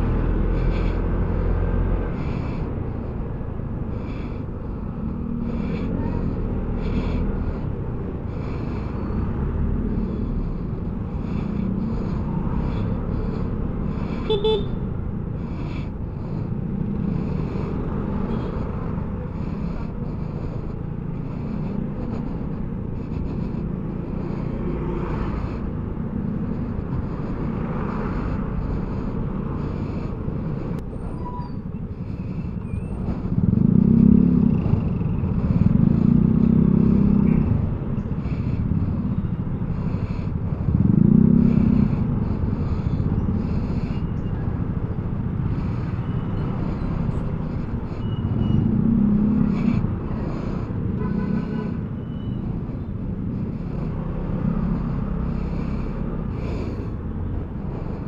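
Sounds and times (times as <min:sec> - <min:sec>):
road rumble: 0:00.0 - 0:58.0
wind: 0:00.0 - 0:58.0.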